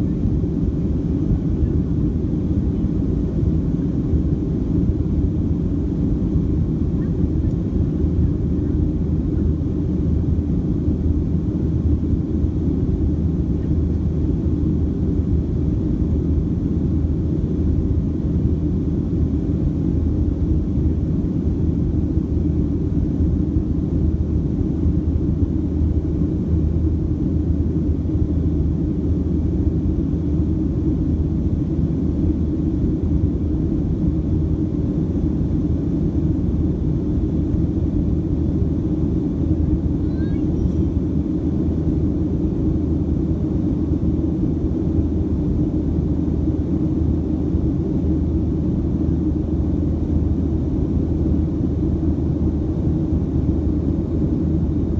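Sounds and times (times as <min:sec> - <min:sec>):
airplane cabin drone: 0:00.0 - 0:54.9.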